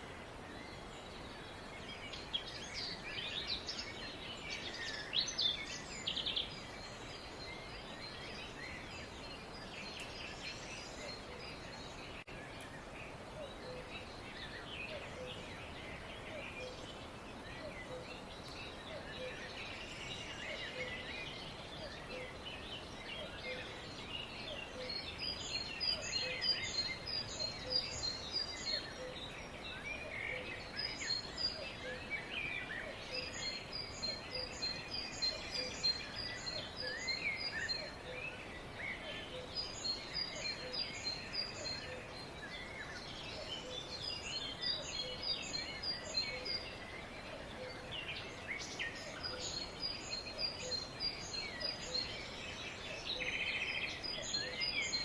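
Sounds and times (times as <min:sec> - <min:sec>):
background hiss: 0:00.0 - 0:55.0
birds chirping and singing: 0:00.0 - 0:55.0.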